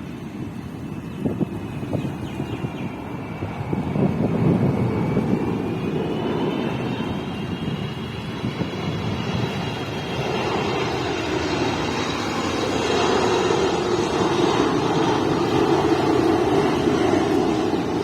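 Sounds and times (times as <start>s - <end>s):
jet airliner engine rush: 0.0s - 18.0s.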